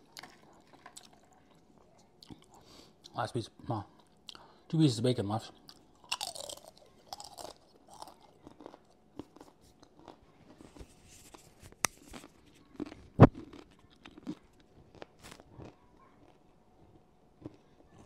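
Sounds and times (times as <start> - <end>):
chewing and crunching bacon: 0.0 - 3.2, 5.4 - 10.9, 11.8 - 18.0.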